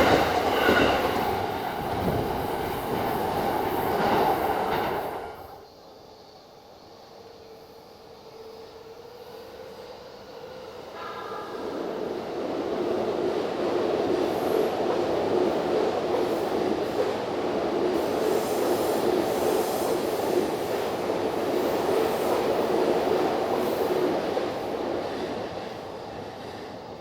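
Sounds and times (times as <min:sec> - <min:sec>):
train wheels rumbling on rails: 0:00.0 - 0:05.6, 0:11.0 - 0:27.0.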